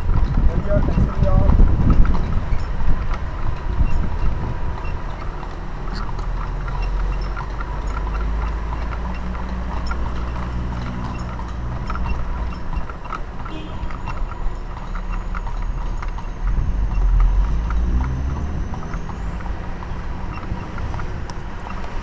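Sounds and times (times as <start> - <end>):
horse hooves clip-clopping on pavement: 0.0 - 22.0.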